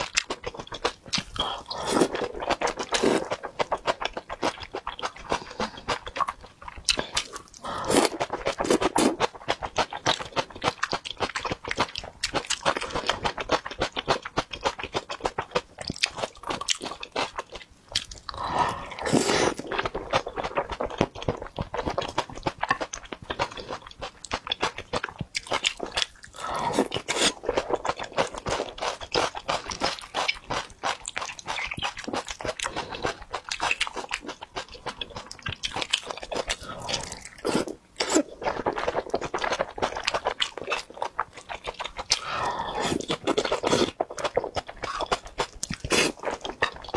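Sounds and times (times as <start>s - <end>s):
wet chewing and lip-smacking: 0.0s - 46.9s.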